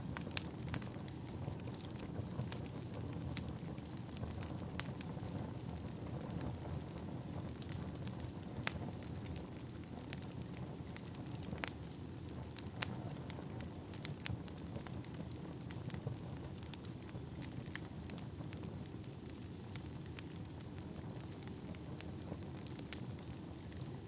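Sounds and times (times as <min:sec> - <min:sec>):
logs crackling and popping: 0:00.0 - 0:24.0
low rumble of fire: 0:00.0 - 0:24.0.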